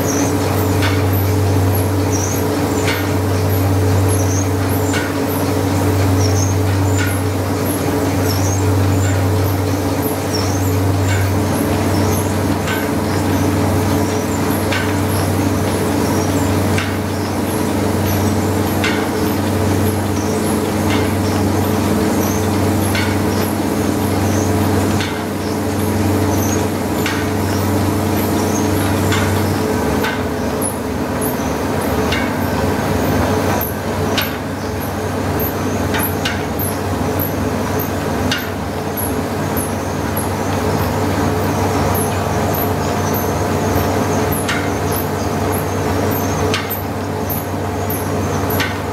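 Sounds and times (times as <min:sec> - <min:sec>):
steam engine machinery drone: 0:00.0 - 0:48.9.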